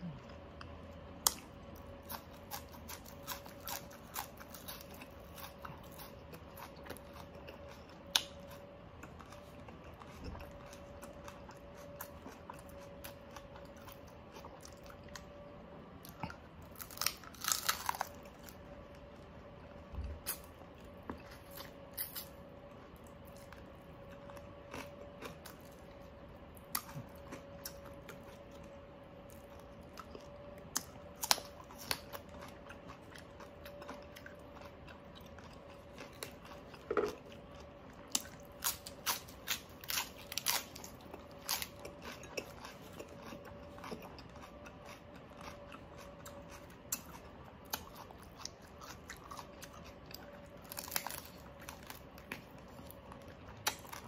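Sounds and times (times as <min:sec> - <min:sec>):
chewing crispy food: 0:00.0 - 0:54.0
faint steady hum: 0:00.0 - 0:54.0.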